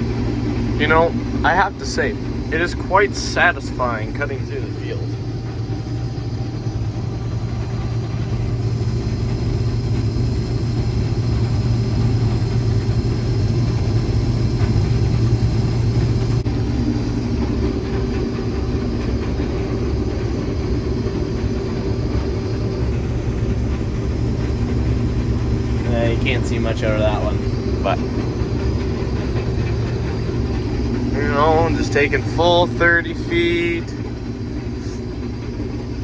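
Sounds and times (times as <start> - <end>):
combine harvester running: 0.0 - 36.0.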